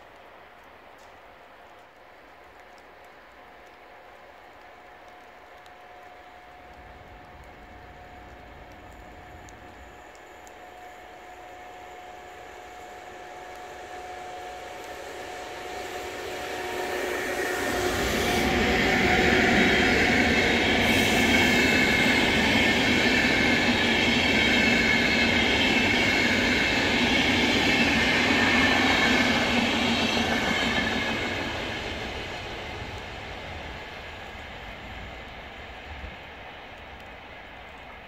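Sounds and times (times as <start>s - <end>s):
electric locomotive whine: 0.2s - 38.0s
train wheels rumbling on rail: 1.1s - 38.0s.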